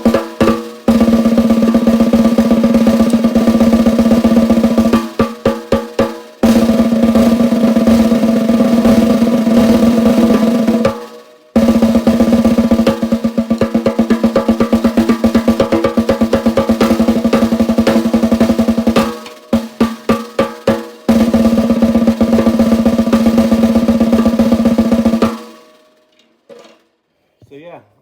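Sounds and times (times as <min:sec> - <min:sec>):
snare drum rolls: 0:00.0 - 0:26.0
snare drum strokes: 0:00.0 - 0:26.0.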